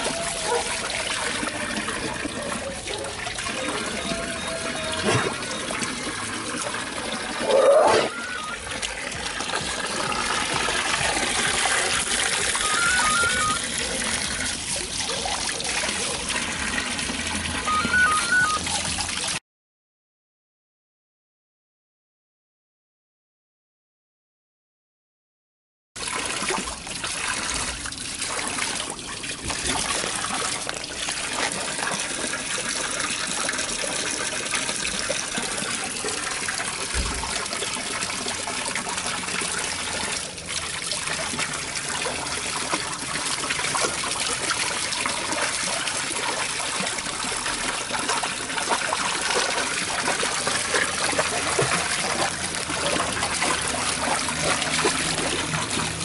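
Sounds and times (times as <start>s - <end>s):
water trickling and splashing: 0.0s - 19.4s, 26.0s - 56.0s.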